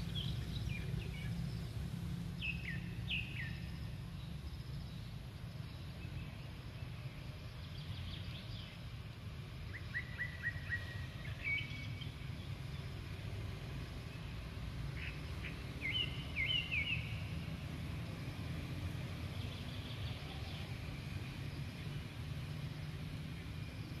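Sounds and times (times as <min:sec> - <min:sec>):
birds chirping: 0:00.0 - 0:24.0
low outdoor rumble: 0:00.0 - 0:24.0.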